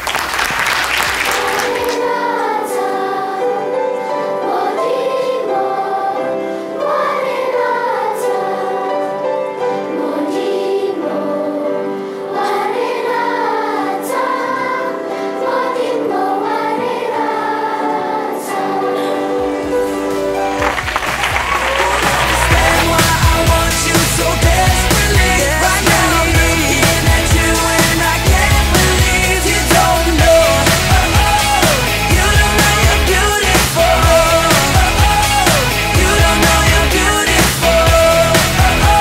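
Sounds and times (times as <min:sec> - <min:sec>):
girls choir singing: 0:01.1 - 0:39.0.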